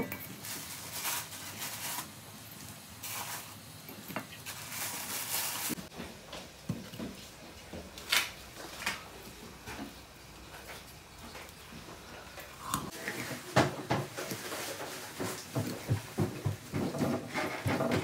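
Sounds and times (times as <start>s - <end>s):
rustling and scraping: 0.0s - 2.2s, 3.0s - 18.0s.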